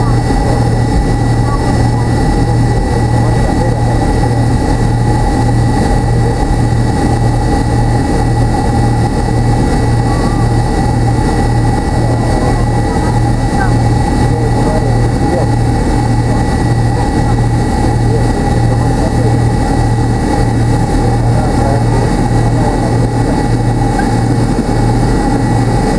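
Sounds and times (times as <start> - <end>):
aircraft cabin engine hum: 0.0 - 25.9
thin high whine: 0.0 - 25.9.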